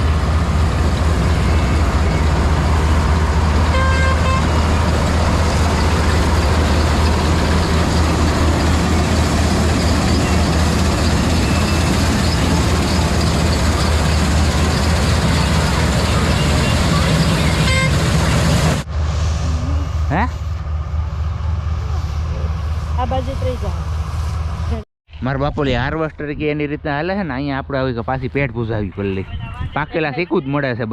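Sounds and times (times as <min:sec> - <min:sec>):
combine harvester engine drone: 0:00.0 - 0:24.8.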